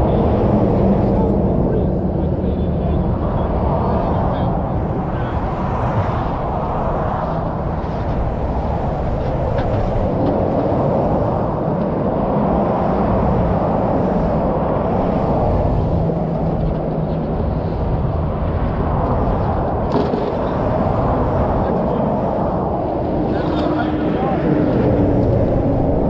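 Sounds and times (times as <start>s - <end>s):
highway traffic rumble: 0.0s - 26.0s.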